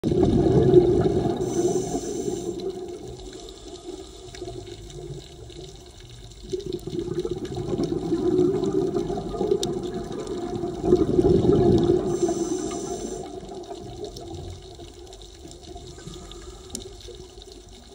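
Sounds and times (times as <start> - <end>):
underwater bubbles gurgling: 0.0 - 17.9.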